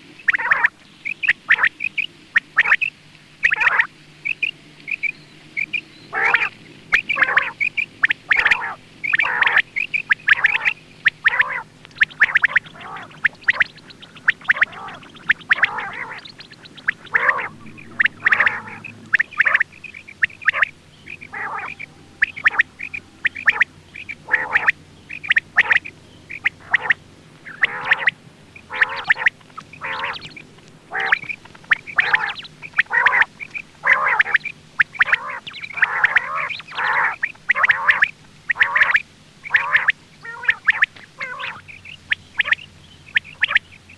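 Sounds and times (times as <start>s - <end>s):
quail calling: 0.0s - 43.9s.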